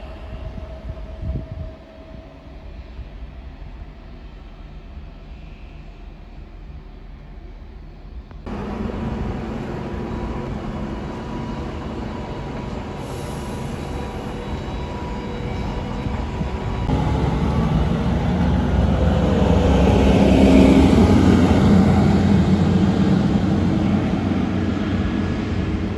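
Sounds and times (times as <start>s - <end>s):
diesel train passing: 0.0s - 25.9s.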